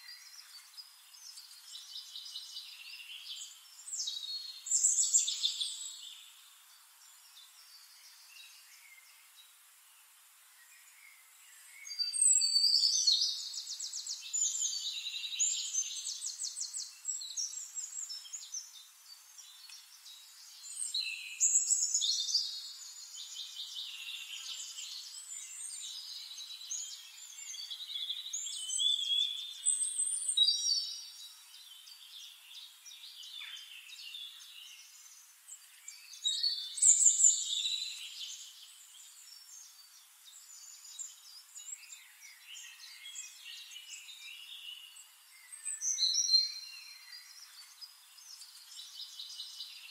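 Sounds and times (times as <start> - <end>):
songbirds twittering: 0.0 - 49.9.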